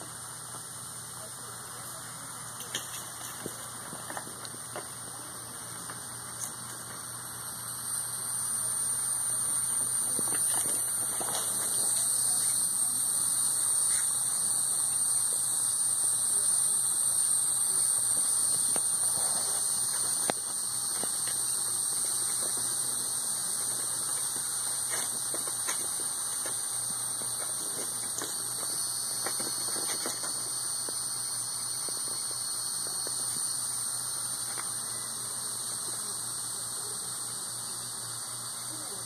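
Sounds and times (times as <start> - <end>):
high-pitched hiss: 0.0 - 39.0
steady low hum: 0.0 - 39.0.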